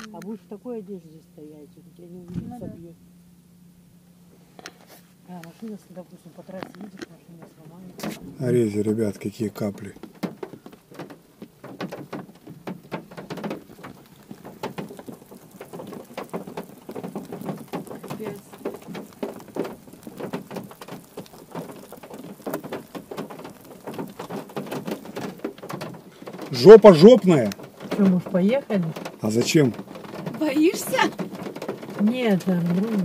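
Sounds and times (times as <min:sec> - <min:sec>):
raindrops tapping on car: 0:04.6 - 0:33.0.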